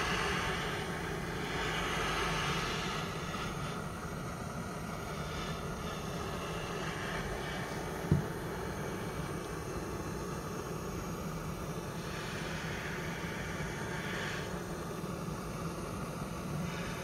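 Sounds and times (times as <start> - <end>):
blow torch hissing: 0.0 - 17.0.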